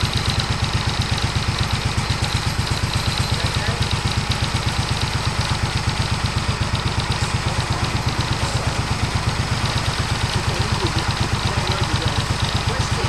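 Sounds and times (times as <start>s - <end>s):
sawmill engine pulsing: 0.0s - 13.0s.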